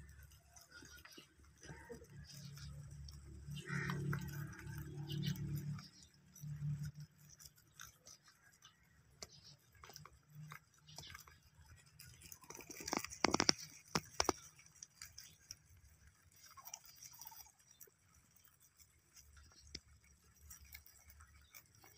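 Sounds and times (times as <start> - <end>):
rabbits chewing grass: 0.0 - 21.9.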